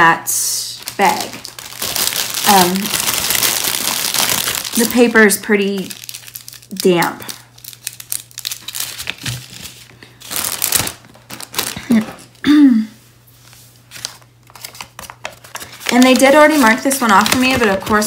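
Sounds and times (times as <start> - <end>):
plastic bags crinkling: 0.7 - 12.4, 13.9 - 18.0.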